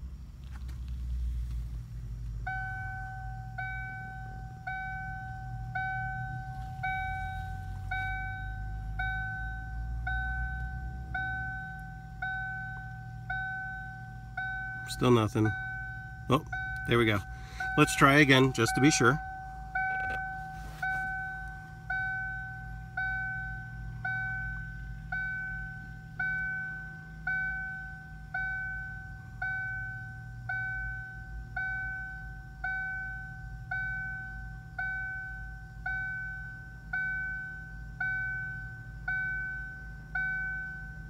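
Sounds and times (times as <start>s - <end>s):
low steady hum: 0.0s - 41.0s
electronic warning chime dinging: 2.5s - 41.0s.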